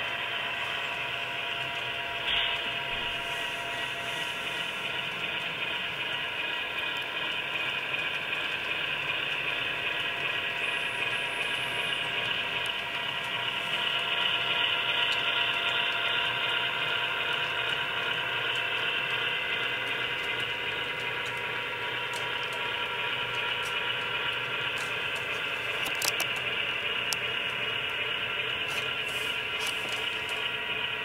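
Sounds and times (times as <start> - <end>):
model train motor whir: 0.0 - 31.0.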